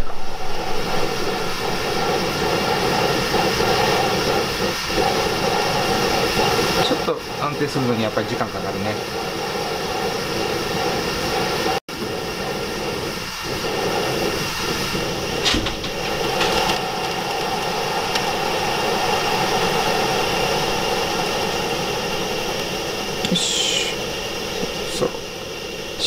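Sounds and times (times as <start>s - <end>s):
camping stove burner hissing: 0.0s - 26.0s.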